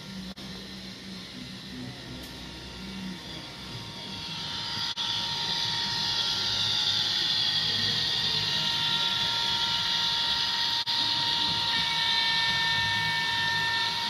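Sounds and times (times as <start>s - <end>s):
model train whining: 2.7s - 14.0s.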